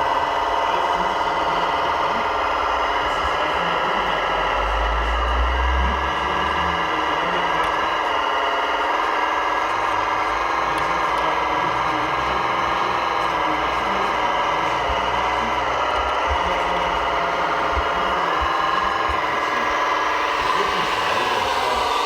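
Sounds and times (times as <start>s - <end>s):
model truck motor drone: 0.0s - 22.0s.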